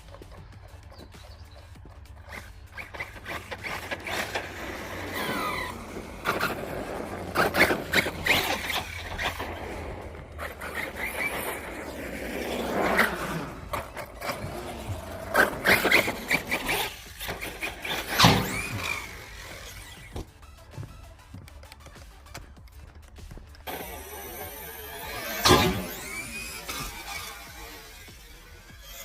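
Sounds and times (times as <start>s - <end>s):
rc truck motors whining: 0.0s - 29.0s
trucks clattering on landing: 0.0s - 29.0s
tyres scrabbling: 0.0s - 29.0s.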